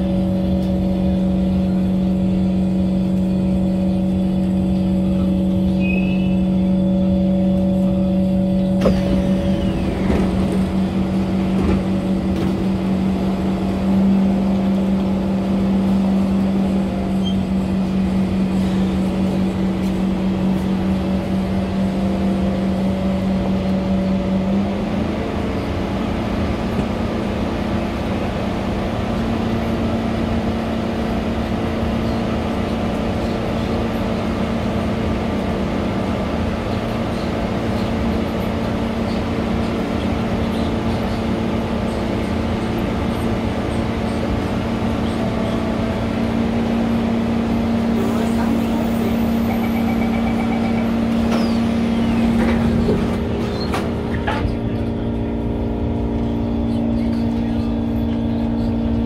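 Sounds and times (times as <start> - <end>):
train hum: 0.0 - 59.0
train rumbling running noise: 0.0 - 59.0.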